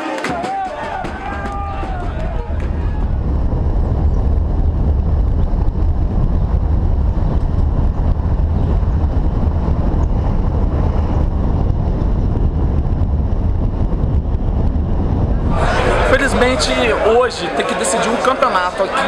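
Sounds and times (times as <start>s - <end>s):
wind buffeting microphone: 0.6s - 19.0s
car driving rumble: 0.8s - 17.3s.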